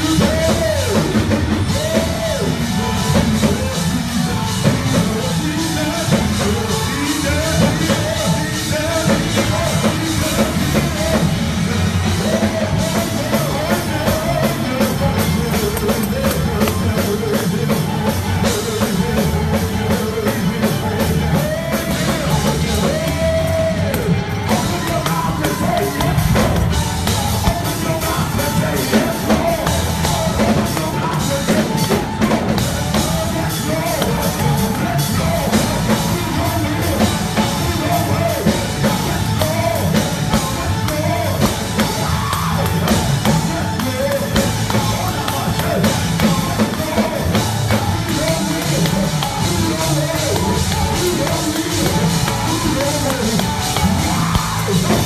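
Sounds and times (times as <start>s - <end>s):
drum kit: 0.0s - 55.0s
gospel band music: 0.0s - 55.0s
person singing and shouting: 0.0s - 55.0s.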